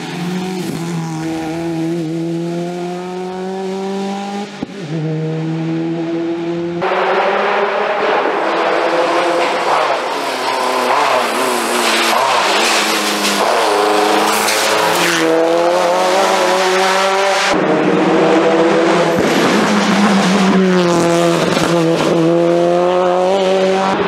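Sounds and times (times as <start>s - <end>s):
race car engine at full throttle: 0.0s - 24.0s
second race car engine revving: 0.0s - 24.0s.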